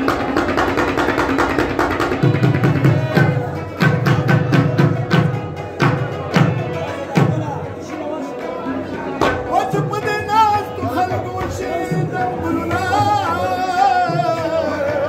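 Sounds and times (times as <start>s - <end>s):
tabla rhythmic strokes: 0.0s - 15.0s.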